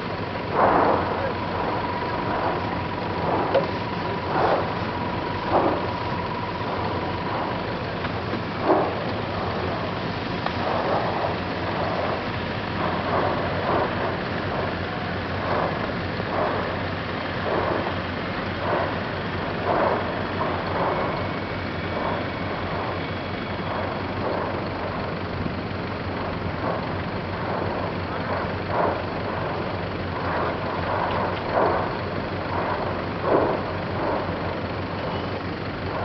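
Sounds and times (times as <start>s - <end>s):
lava fountain roaring and gushing: 0.0s - 36.0s.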